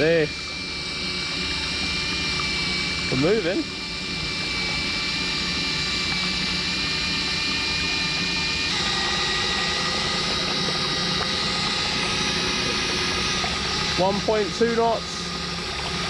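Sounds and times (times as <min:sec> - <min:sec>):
electric drill motor whine: 0:00.0 - 0:16.0
water churning: 0:00.0 - 0:16.0.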